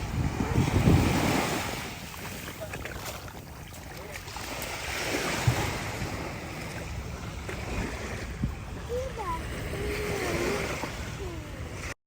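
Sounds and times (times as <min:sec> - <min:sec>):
sea waves washing onto beach: 0:00.0 - 0:12.0
wind rumbling on microphone: 0:00.0 - 0:12.0.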